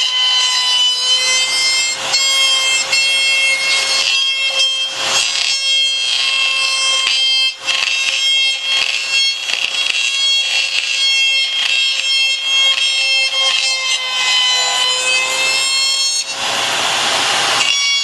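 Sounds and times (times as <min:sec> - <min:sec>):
router bit rasping: 0:00.0 - 0:16.8
router high-pitched whine: 0:00.0 - 0:18.0.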